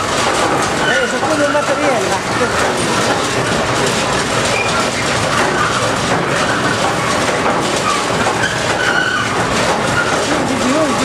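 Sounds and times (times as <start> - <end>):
mill machinery rattling: 0.0 - 11.0.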